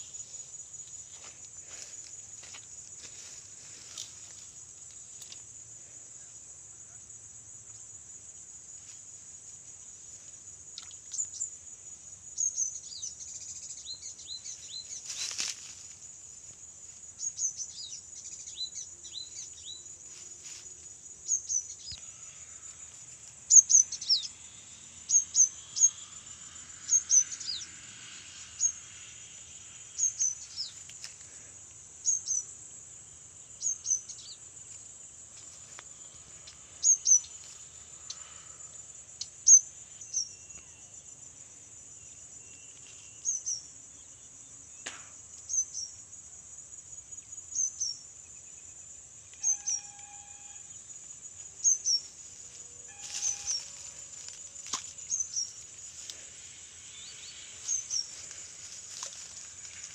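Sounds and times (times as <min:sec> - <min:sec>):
high-pitched insect drone: 0:09.7 - 0:44.5, 0:45.5 - 0:59.9.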